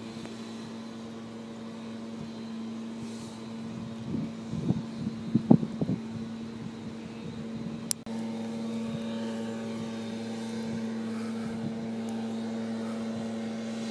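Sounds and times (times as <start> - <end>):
motor humming: 0.0 - 13.9.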